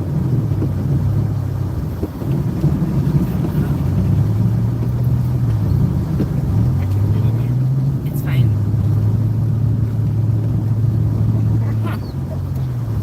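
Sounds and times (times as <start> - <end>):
car engine low hum: 0.0 - 13.0.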